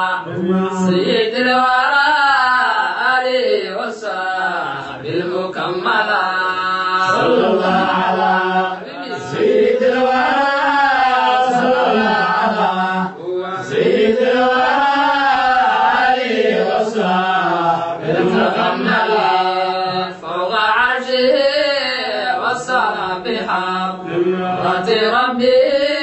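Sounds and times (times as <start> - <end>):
men chanting: 0.0 - 26.0.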